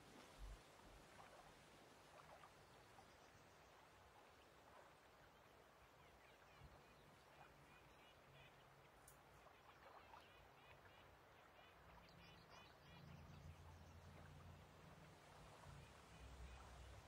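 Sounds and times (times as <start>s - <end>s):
low steady hum: 2.5s - 17.0s.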